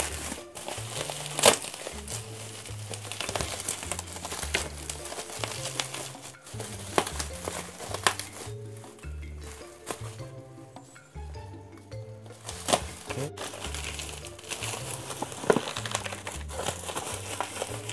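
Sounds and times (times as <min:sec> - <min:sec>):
bubble wrap snapping: 0:00.0 - 0:10.4, 0:12.3 - 0:17.9
bubble wrap crinkling: 0:00.0 - 0:11.5, 0:12.1 - 0:17.9
background music: 0:00.0 - 0:17.9.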